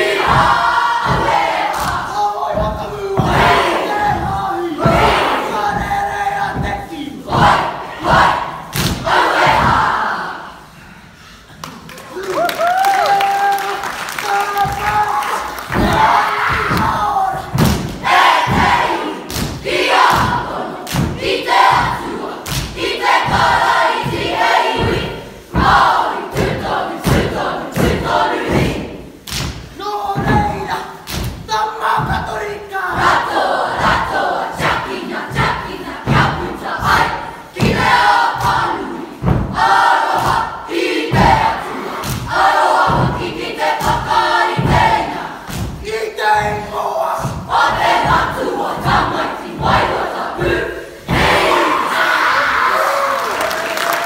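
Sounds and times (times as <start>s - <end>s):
group shouting a chant: 0.0s - 10.6s, 12.7s - 28.8s, 29.8s - 54.0s.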